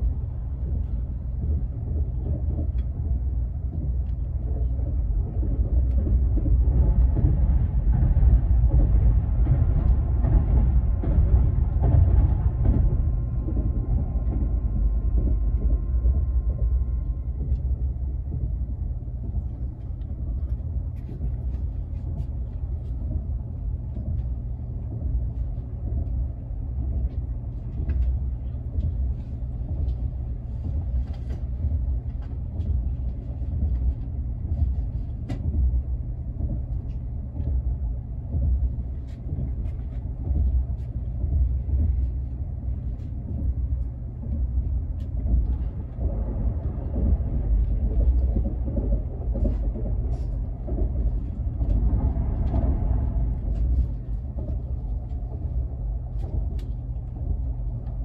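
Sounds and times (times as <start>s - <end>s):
train rumble inside passenger car: 0.0s - 58.0s.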